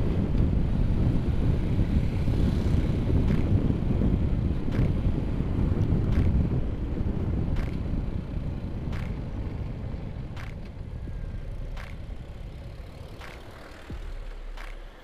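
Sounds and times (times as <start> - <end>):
motorcycle engine rumble: 0.0 - 15.0.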